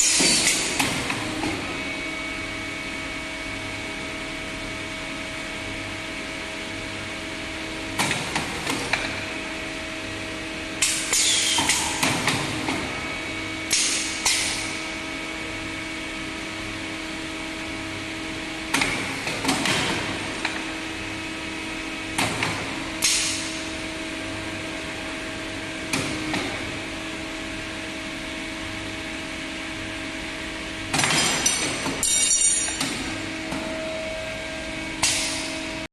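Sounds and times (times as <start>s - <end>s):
machine steady hum: 0.0s - 35.9s.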